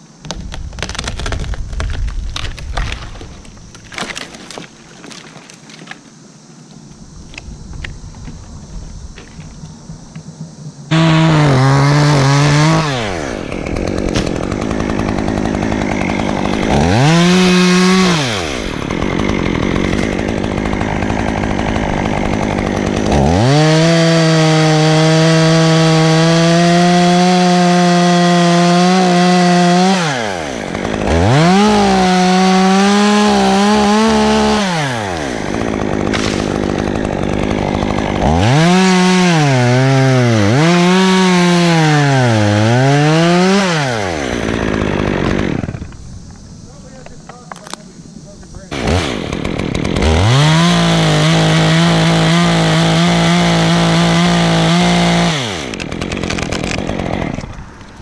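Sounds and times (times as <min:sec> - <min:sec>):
chainsaw cutting wood: 0:00.2 - 0:06.0, 0:07.2 - 0:58.0.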